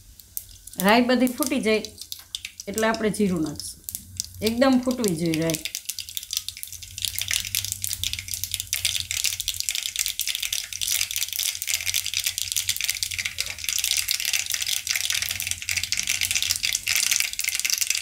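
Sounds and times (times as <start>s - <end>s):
seeds spluttering in hot oil: 0.0s - 18.0s.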